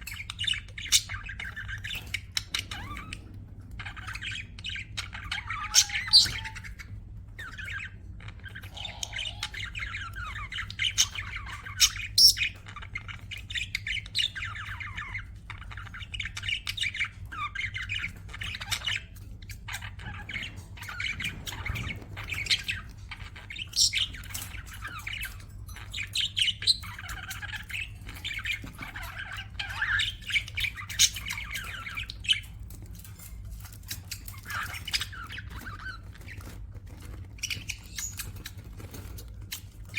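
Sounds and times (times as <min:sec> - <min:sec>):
sharp bird chirps and squawks: 0:00.0 - 0:36.6
budgerigars chattering and warbling: 0:00.0 - 0:39.9.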